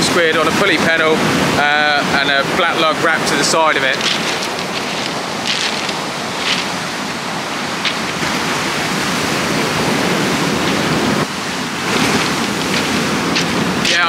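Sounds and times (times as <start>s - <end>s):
heavy surf breaking on beach: 0.0s - 14.0s.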